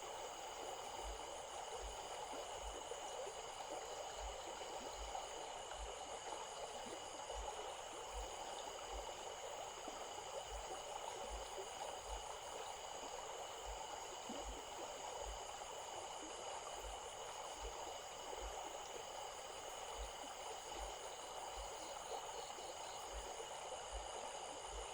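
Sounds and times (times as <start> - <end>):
stream flowing: 0.0 - 24.9.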